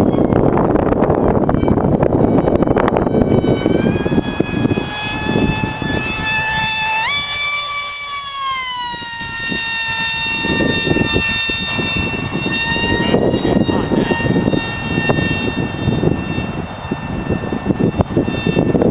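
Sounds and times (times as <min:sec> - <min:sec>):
model boat motor whining: 0:00.0 - 0:18.9
wind rumble on microphone: 0:00.0 - 0:18.9.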